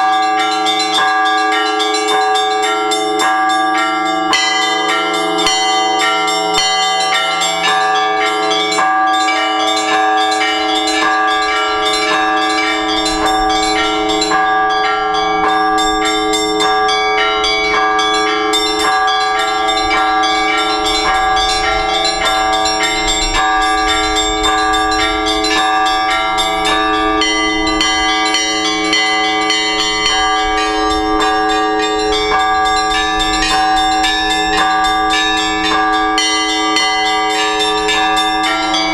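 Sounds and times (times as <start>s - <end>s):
church bells pealing: 0.0s - 38.9s
hum of large bells: 0.0s - 38.9s.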